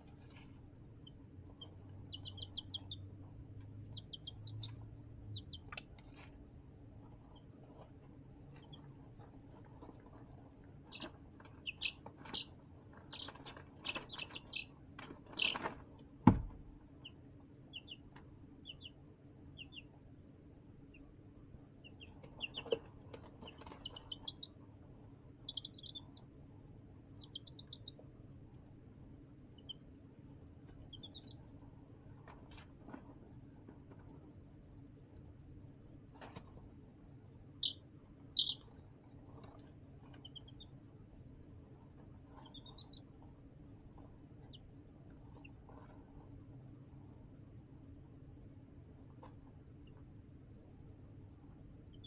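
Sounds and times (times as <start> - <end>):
baby chicks peeping: 0.0 - 52.0.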